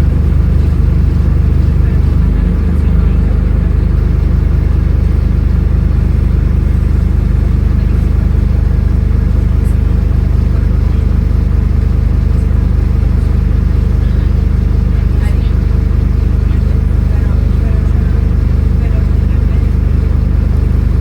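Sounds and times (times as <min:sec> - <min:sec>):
bus diesel engine running steadily: 0:00.0 - 0:21.0.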